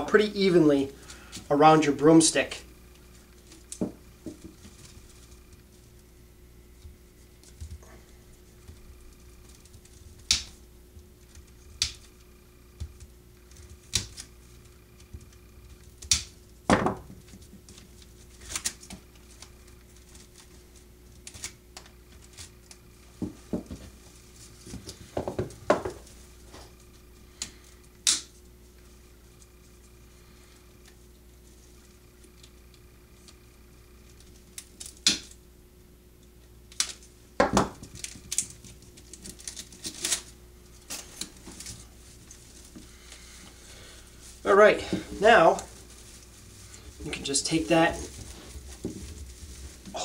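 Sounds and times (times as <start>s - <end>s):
twigs rustling: 0.0s - 16.6s, 17.2s - 35.4s, 36.2s - 50.0s.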